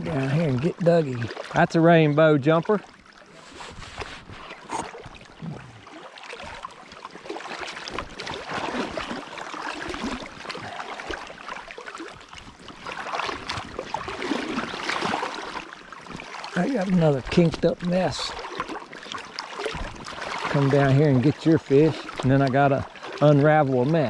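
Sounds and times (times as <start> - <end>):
creek water running: 0.0 - 24.0
water splashing: 0.0 - 24.0.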